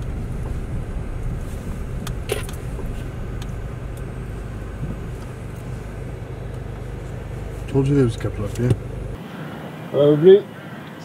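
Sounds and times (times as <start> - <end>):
car engine and road rumble: 0.0 - 10.4.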